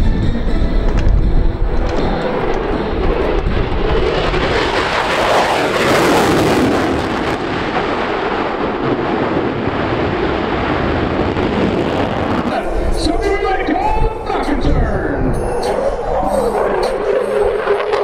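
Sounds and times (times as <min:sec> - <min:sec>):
jet with afterburners passing: 0:00.0 - 0:18.0.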